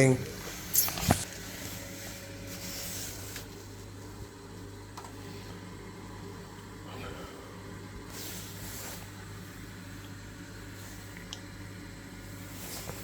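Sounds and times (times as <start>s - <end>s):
pump electrical hum: 0.0s - 13.0s.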